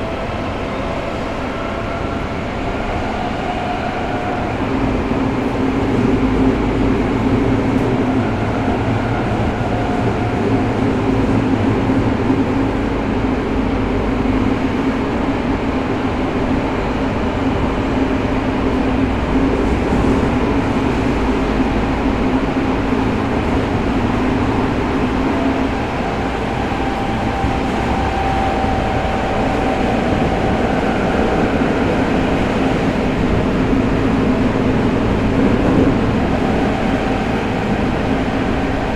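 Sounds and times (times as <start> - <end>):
rumble of wheels on rail: 0.0 - 38.9.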